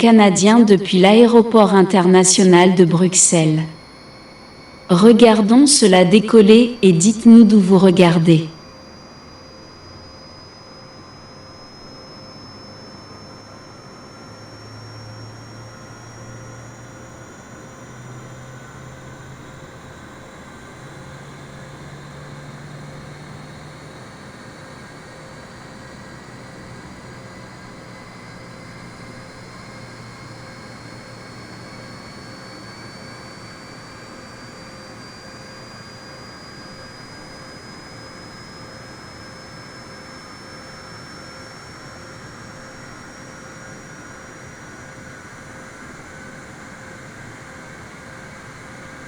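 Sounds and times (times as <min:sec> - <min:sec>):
jet engines roaring with rising whine: 0:00.0 - 0:49.0.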